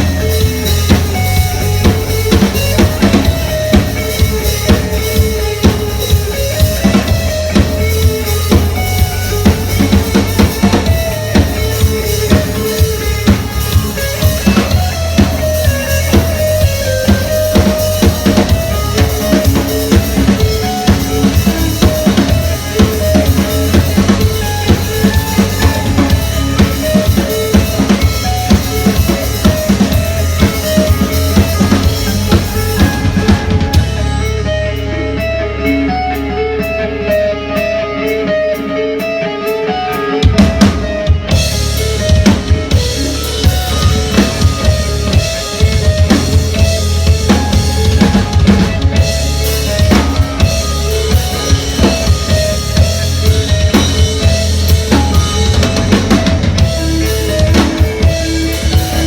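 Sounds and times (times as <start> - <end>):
repeating melodic line: 0.0 - 35.2, 41.3 - 59.0
sustained bass: 0.0 - 38.0, 40.4 - 59.0
drum kit beat: 0.0 - 59.0.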